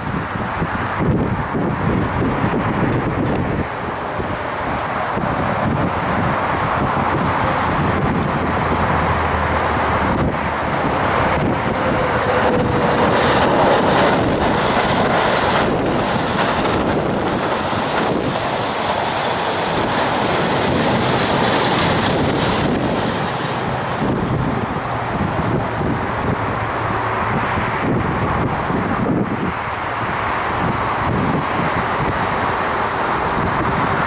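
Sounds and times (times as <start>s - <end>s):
electric train passing: 0.0s - 34.0s
wind buffeting microphone: 0.0s - 34.0s.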